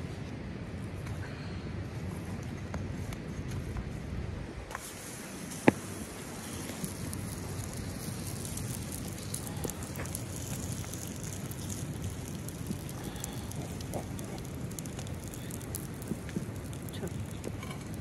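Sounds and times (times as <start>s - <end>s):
small fire crackling: 2.2s - 18.0s.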